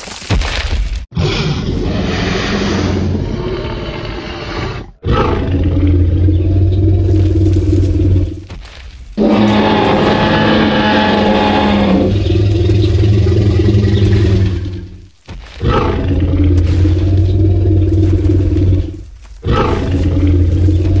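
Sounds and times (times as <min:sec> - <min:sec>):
deep dinosaur roars: 0:01.2 - 0:08.4, 0:09.2 - 0:21.0.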